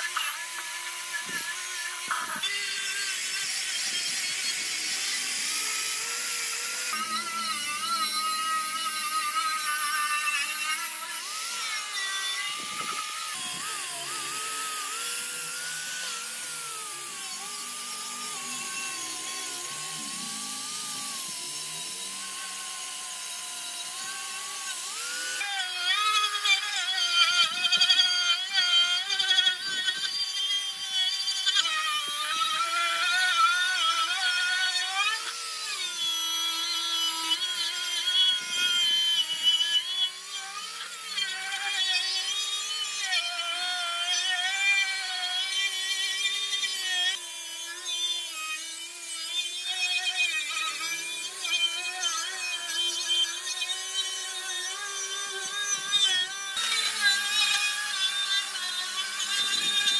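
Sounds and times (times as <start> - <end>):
angle grinder wire brushing metal: 0.0 - 59.9.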